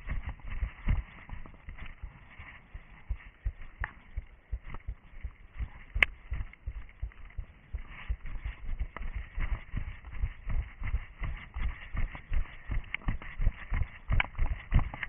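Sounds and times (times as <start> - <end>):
footsteps on forest ground: 0.0 - 15.0.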